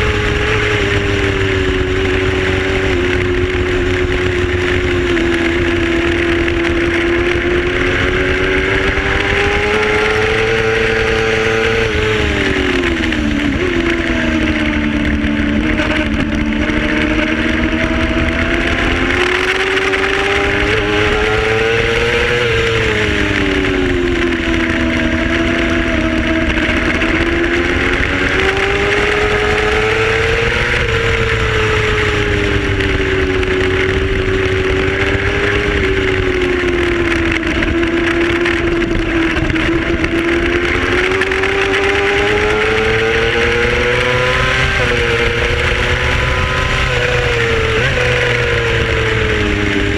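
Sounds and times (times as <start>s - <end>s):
racing motorcycle engine revving: 0.0s - 49.9s
rush of wind: 0.0s - 49.9s.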